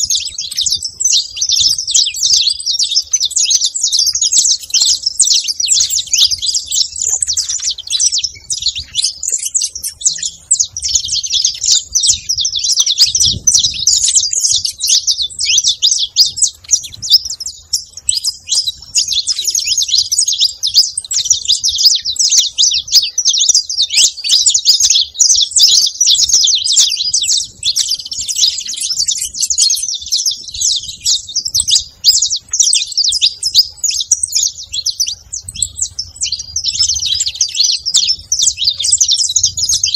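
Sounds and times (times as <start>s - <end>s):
flock of finches chattering: 0.0s - 39.9s.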